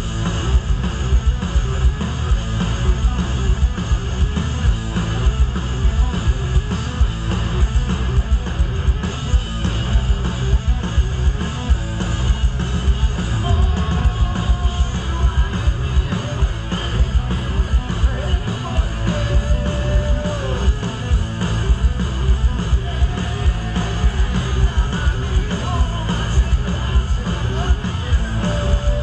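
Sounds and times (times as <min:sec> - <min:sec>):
distorted electric guitars: 0:00.0 - 0:29.0
pounding drums: 0:00.0 - 0:29.0
yelled vocals: 0:00.0 - 0:29.0.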